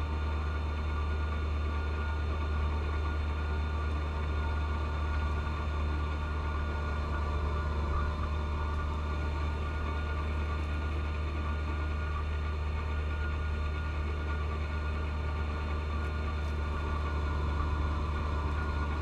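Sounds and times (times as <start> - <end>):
tractor diesel engine droning: 0.0 - 19.0.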